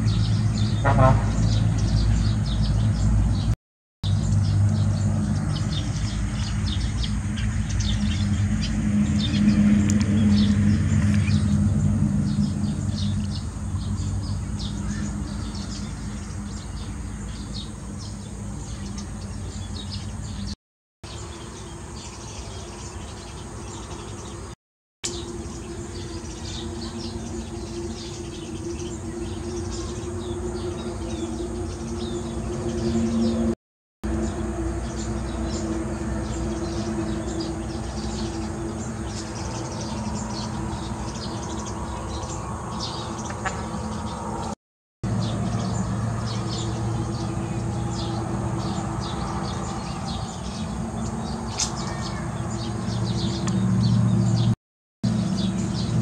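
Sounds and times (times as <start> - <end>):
sparrows chirping: 0.0 - 56.0
steady low hum: 4.1 - 20.4, 25.1 - 54.5.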